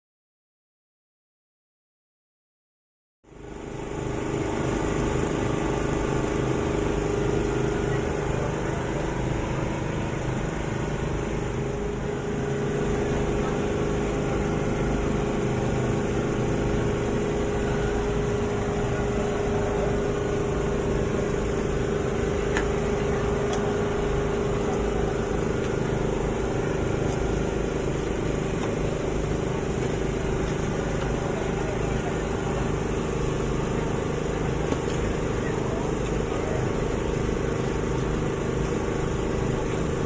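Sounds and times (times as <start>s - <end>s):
outdoor background noise: 3.3s - 40.0s
steady machine hum: 3.3s - 40.0s.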